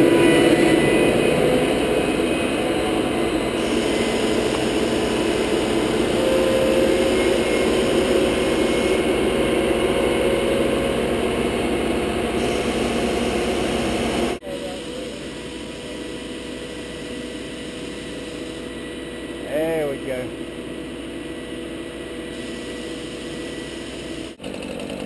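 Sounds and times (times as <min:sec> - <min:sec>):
diesel crane engine running: 0:00.0 - 0:25.0.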